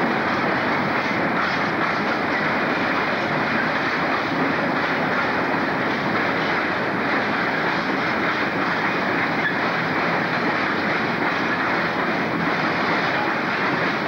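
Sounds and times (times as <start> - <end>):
freight train rushing over tracks: 0.0 - 14.0.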